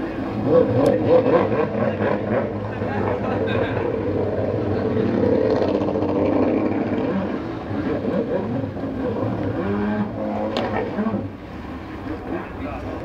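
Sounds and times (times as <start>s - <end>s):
jet ski engines whining: 0.0s - 13.0s.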